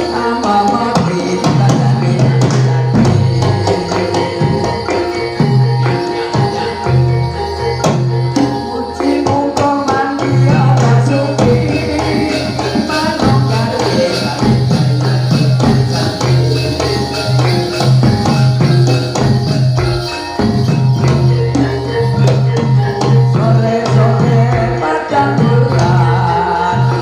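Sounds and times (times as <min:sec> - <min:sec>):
drums and jingling percussion: 0:00.0 - 0:27.0
metallic percussion melody: 0:00.0 - 0:27.0.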